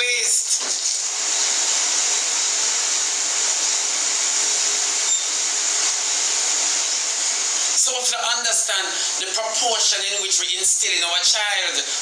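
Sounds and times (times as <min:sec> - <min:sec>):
loud rushing hiss: 0:00.0 - 0:10.0.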